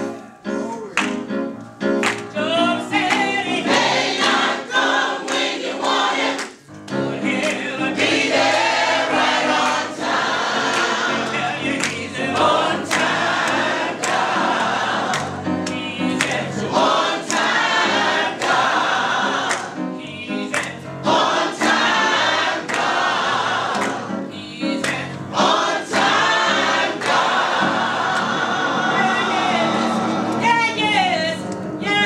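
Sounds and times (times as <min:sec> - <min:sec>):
choir singing gospel: 0:02.0 - 0:32.0.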